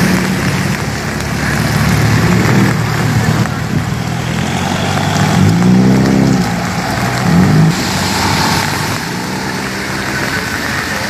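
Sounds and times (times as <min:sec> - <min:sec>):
passing vehicle engine revving: 0:00.0 - 0:11.0.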